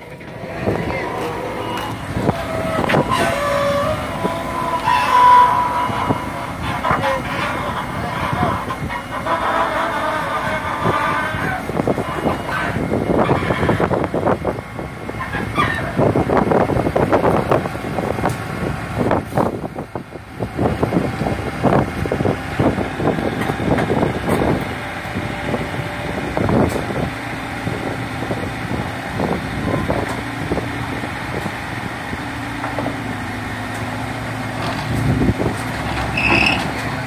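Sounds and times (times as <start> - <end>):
excavator engine working: 0.0 - 37.0
tracks clanking on steel: 0.0 - 37.0.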